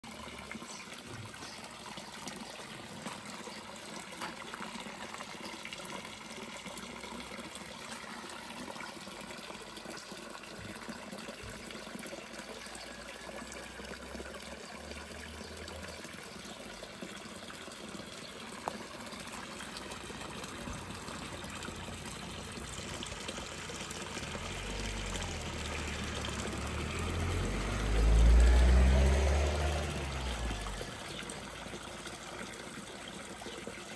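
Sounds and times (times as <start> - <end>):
fountain splashing into pond: 0.0 - 33.9.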